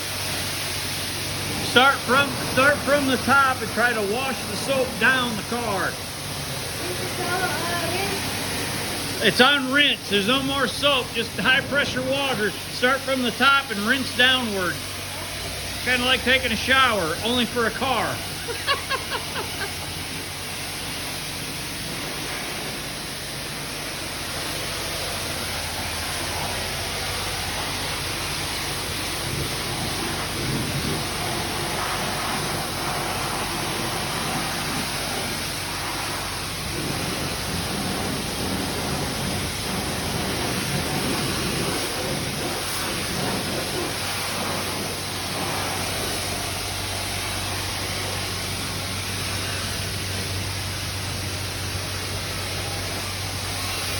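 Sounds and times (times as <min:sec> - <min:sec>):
spray wand water hissing on van: 0:00.0 - 0:53.9.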